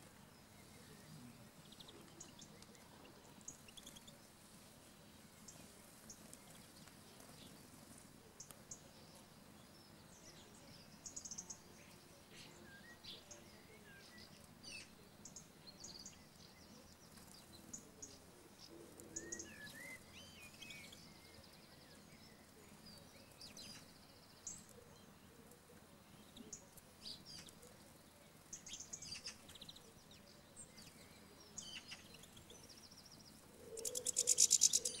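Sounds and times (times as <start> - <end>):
birds chirping and twittering: 0.0 - 35.0
faint background hiss: 0.0 - 35.0.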